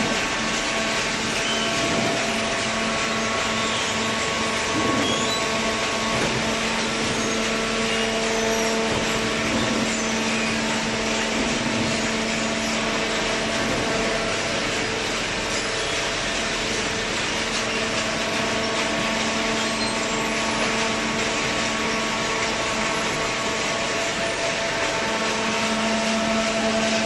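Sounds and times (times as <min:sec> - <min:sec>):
baler machinery humming: 0:00.0 - 0:27.0.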